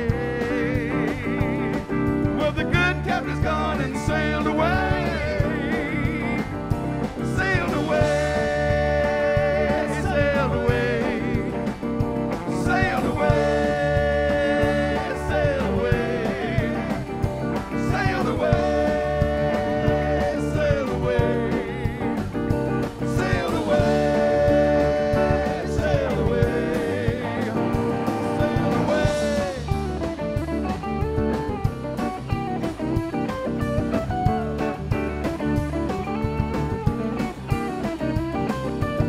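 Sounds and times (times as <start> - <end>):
bending lead guitar notes: 0.0 - 39.0
electric blues band playing: 0.0 - 39.0.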